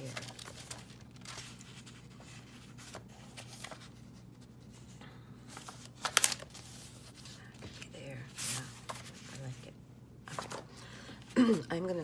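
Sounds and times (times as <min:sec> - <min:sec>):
paper rustling: 0:00.0 - 0:09.7, 0:10.3 - 0:11.3.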